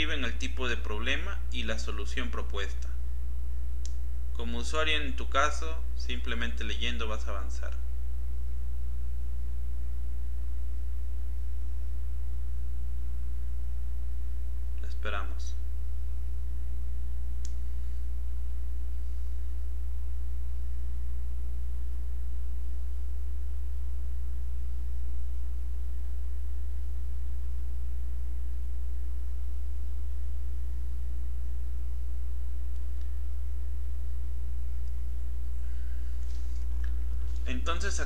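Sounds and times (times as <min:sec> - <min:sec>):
steady low hum: 0:00.0 - 0:38.0
faint high steady tone: 0:03.6 - 0:38.0.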